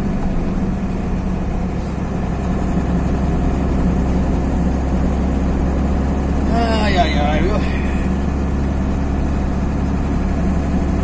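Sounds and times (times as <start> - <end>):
truck engine and tyre drone: 0.0 - 11.0.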